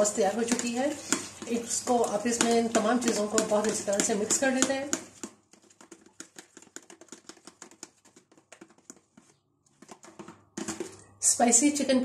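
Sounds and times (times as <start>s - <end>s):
spoon scraping plastic tub: 0.0s - 11.2s.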